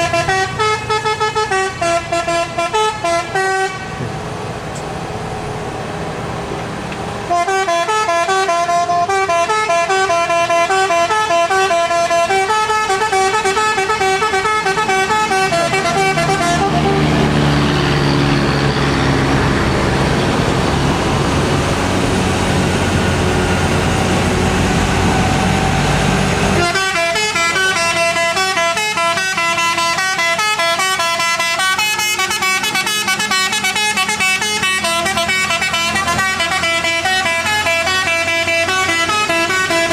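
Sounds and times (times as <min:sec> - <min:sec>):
truck horn playing a tune: 0:00.0 - 0:04.0, 0:07.2 - 0:20.0, 0:22.3 - 0:39.9
diesel truck engine rumbling past: 0:00.0 - 0:39.9.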